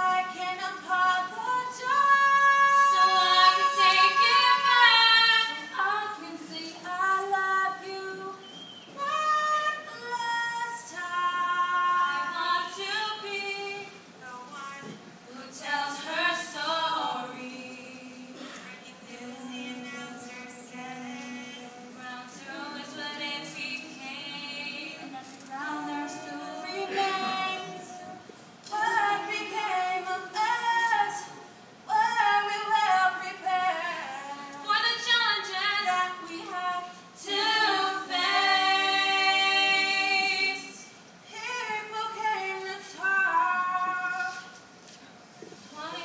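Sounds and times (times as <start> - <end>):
woman singing unaccompanied: 0.0 - 44.6, 45.7 - 46.0.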